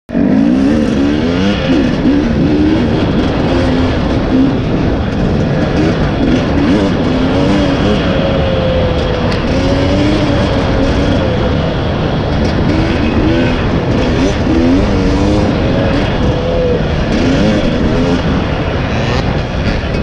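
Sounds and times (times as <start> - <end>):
motorcycle engine revving: 0.1 - 20.0.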